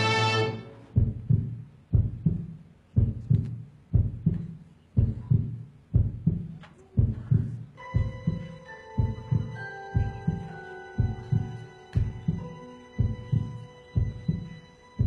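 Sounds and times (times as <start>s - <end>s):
amplified heartbeat thumps: 0.9s - 14.6s.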